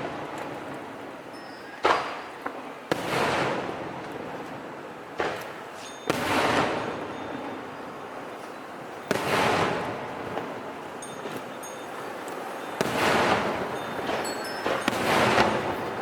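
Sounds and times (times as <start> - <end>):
fireworks bangs: 0.0 - 1.0, 1.8 - 16.0
fireworks crackling hiss: 0.0 - 16.0.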